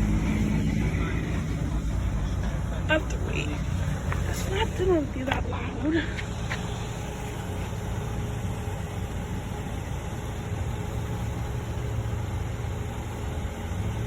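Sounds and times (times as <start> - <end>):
car idling: 0.0 - 14.0.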